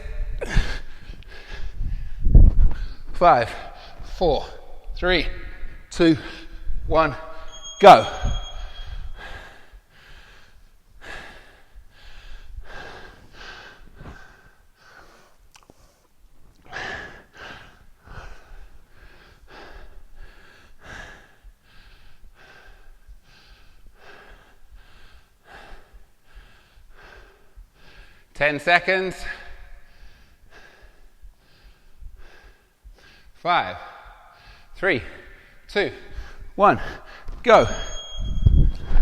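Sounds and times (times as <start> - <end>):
man breathing hard: 0.0 - 4.9, 8.6 - 28.3, 29.3 - 37.9.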